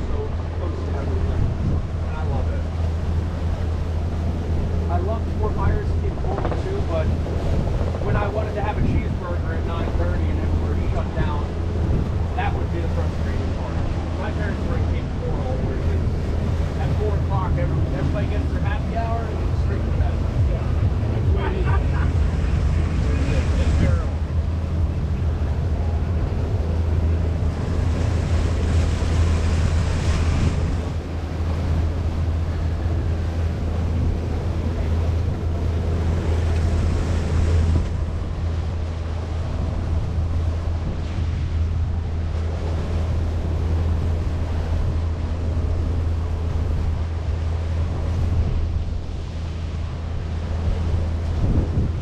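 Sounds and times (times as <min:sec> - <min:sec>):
low motor hum: 0:00.0 - 0:52.0
water rushing past: 0:00.0 - 0:52.0
wind buffeting microphone: 0:00.0 - 0:52.0.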